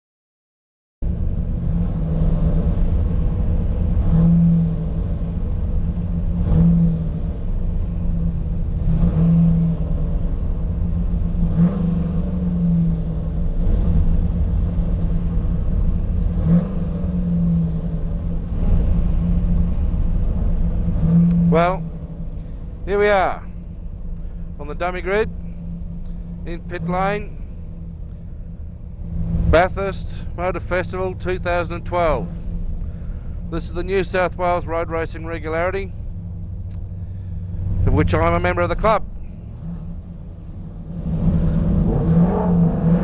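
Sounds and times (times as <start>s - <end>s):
car engine idling: 1.0s - 43.0s.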